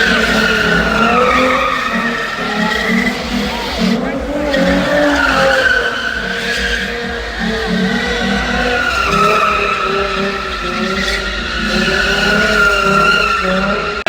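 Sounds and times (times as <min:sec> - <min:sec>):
car engine running hard: 0:00.0 - 0:14.0
car tires screeching: 0:00.0 - 0:14.0.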